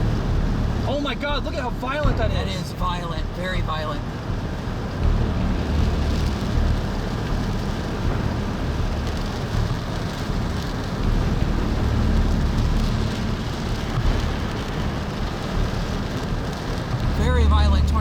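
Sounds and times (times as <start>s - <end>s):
low rumble: 0.0s - 18.0s
rain beating on a vehicle: 0.0s - 18.0s.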